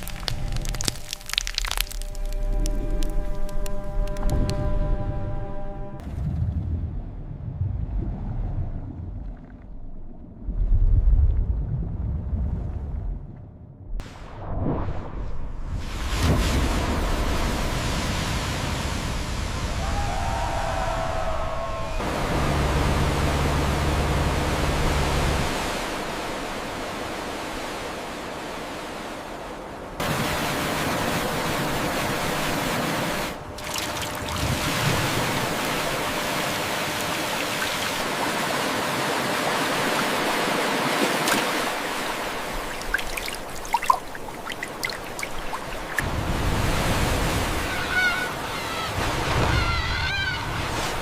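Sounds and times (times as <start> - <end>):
water rushing: 0.0 - 5.6, 15.6 - 51.0.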